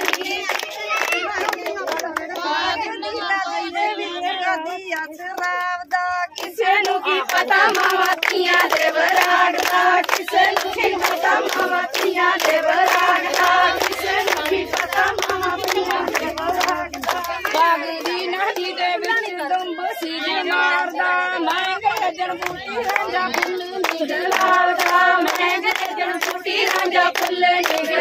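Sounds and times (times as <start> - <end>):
rhythmic hand clapping: 0.0 - 28.0
women and girls singing in chorus: 0.0 - 28.0.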